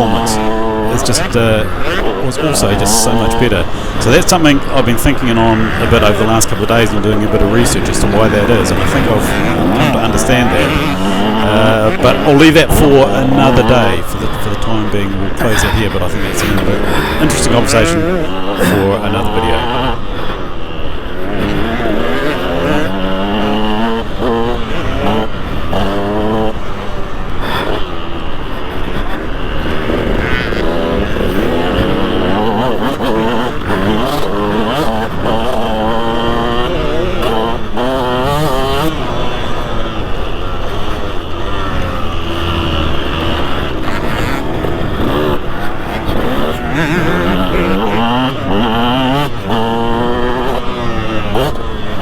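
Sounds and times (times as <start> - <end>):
motocross engine revving: 0.0 - 52.0.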